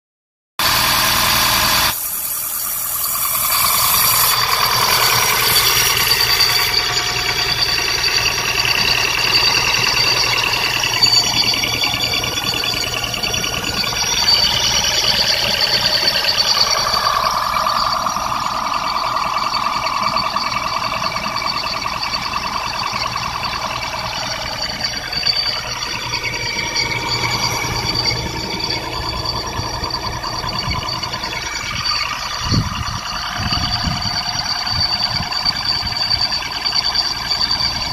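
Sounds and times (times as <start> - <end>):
transmission whine: 0.6 - 37.9.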